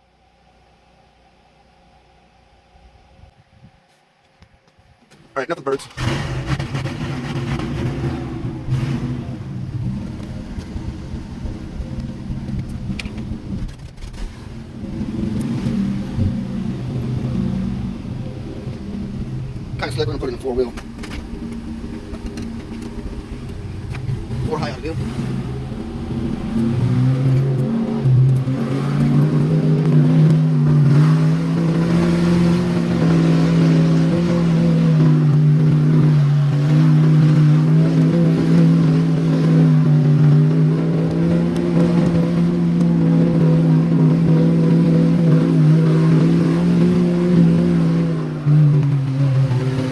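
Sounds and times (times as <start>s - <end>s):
truck engine running: 4.9s - 49.9s.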